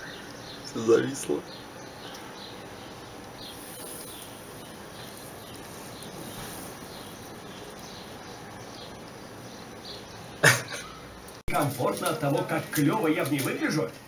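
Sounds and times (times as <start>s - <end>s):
small bird chirping: 0.0s - 11.4s
outdoor background noise: 0.0s - 14.0s.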